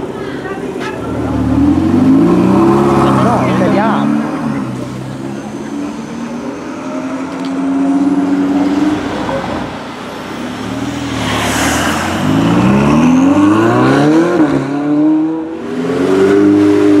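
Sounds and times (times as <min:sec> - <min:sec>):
car engine: 0:00.0 - 0:17.0
car passing with tyre noise: 0:00.0 - 0:17.0.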